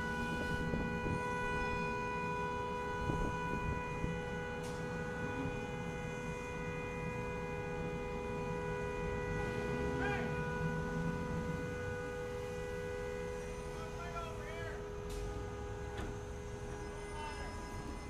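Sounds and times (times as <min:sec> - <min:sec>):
steady droning tone: 0:00.0 - 0:18.0.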